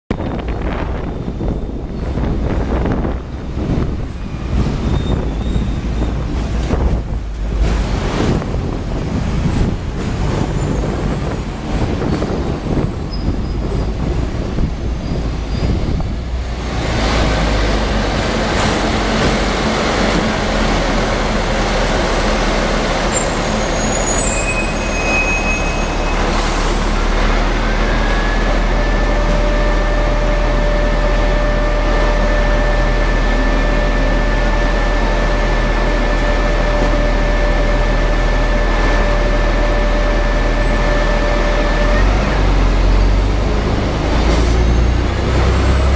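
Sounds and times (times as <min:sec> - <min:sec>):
electric tram humming: 0:00.1 - 0:45.9.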